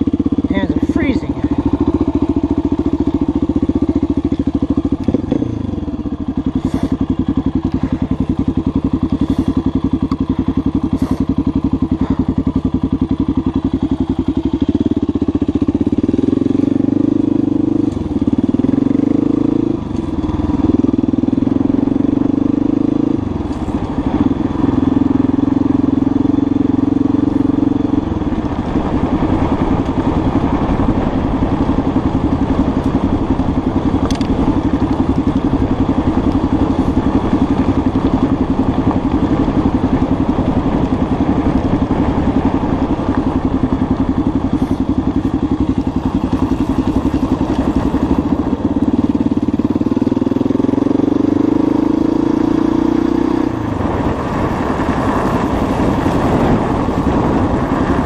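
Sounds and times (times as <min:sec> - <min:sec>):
motorcycle engine shifting gears: 0:00.0 - 0:58.0.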